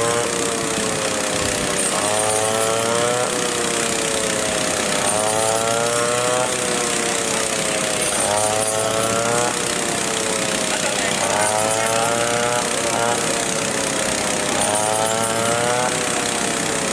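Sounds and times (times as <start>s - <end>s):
small engine revving: 0.0s - 16.9s.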